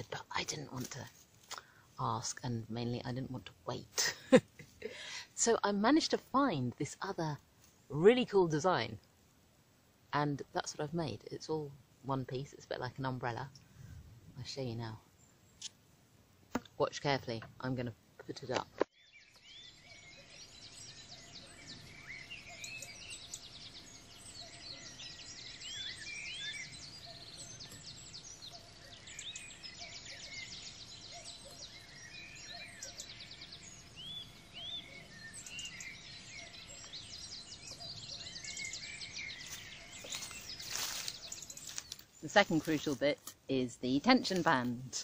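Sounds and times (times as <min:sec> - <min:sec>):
birds chirping and trilling: 0:00.0 - 0:09.1, 0:10.1 - 0:15.8, 0:16.6 - 0:45.0
low outdoor hum: 0:00.0 - 0:45.0.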